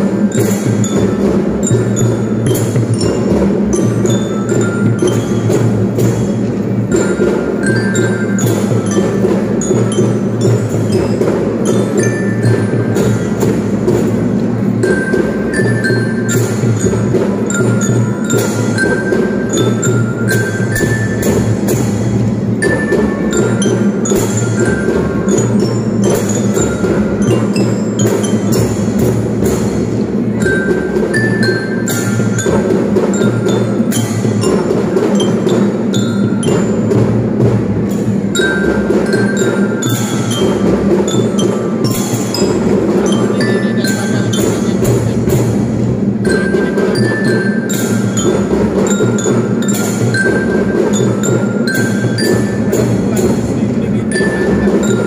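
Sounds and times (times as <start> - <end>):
glockenspiel melody: 0.0 - 55.0
marching drums beating: 0.0 - 55.0.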